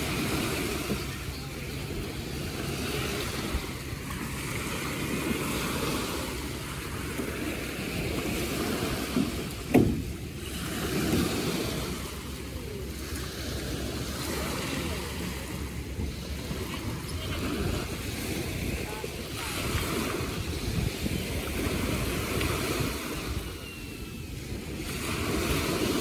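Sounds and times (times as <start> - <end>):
beach surf: 0.0 - 26.0
wind rumbling on microphone: 0.0 - 26.0.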